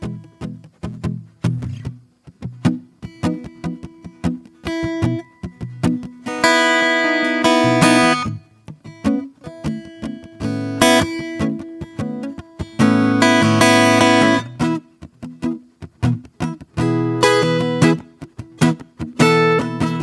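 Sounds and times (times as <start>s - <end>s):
acoustic guitar: 0.0s - 20.0s.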